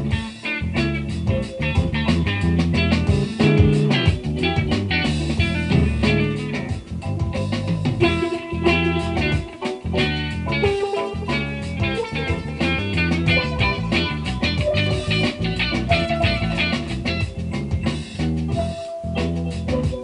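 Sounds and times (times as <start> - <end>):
guitar music from loudspeakers: 0.0 - 20.0.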